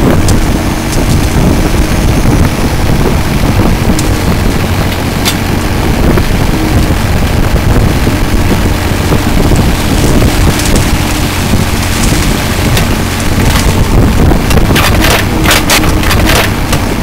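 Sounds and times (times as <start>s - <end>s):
bucket digging mud: 0.0s - 17.0s
diesel excavator engine running: 0.0s - 17.0s
wind noise on microphone: 0.0s - 17.0s.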